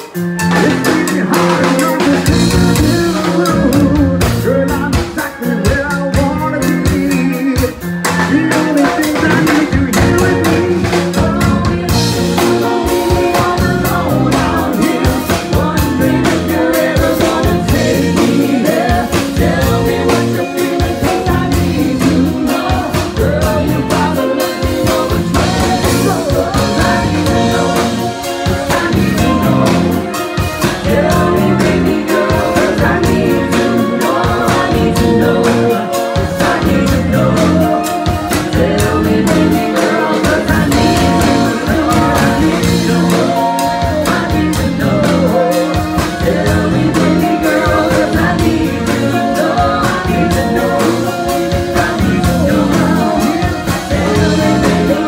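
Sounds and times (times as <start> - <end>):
electric guitar: 0.0 - 55.0
person singing: 0.0 - 55.0
steady drum beat: 0.0 - 55.0.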